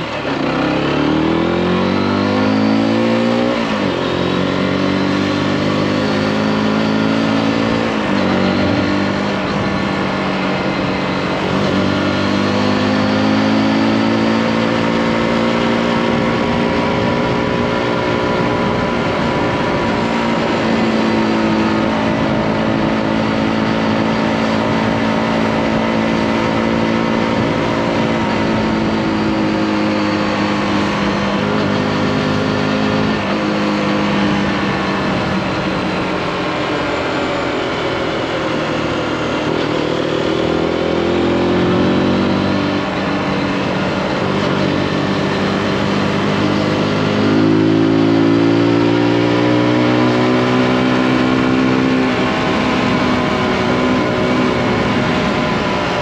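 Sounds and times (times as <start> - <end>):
motorcycle engine accelerating: 0.0 - 56.0
wind rush: 6.9 - 56.0.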